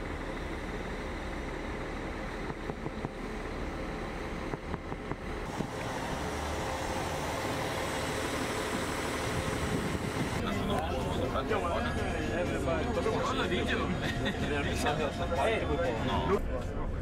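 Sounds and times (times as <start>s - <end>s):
bus engine idling: 0.0s - 16.4s.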